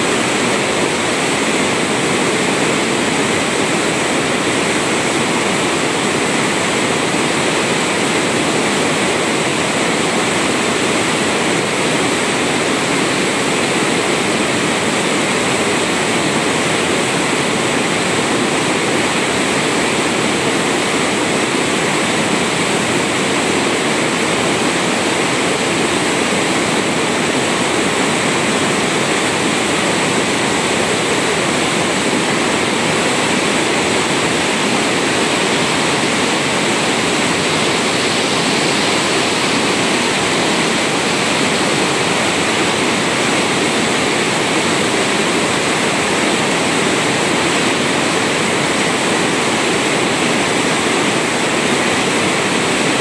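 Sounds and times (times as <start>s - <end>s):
waterfall rushing and splashing: 0.0s - 53.0s.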